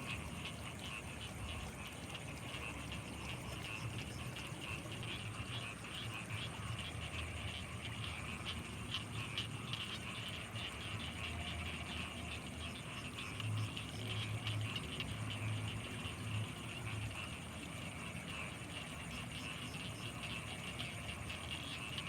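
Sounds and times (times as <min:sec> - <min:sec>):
frogs and insects trilling: 0:00.0 - 0:22.0.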